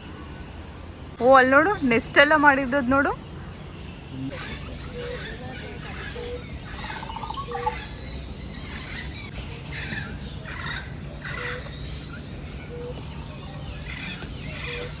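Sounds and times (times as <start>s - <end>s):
raspy chattering bird calls: 2.0s - 15.0s.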